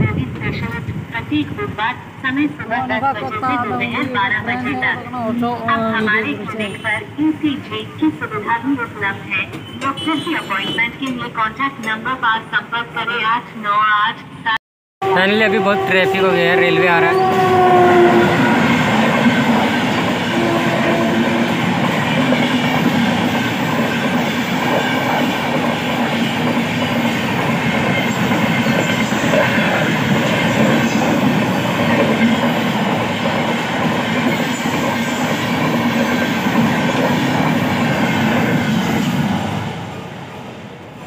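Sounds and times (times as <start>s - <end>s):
train wheels rumbling on track: 0.0s - 12.2s, 15.8s - 41.0s.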